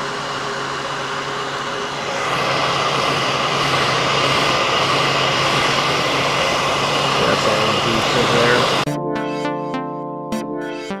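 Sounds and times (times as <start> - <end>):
heat gun fan humming: 0.0 - 8.9.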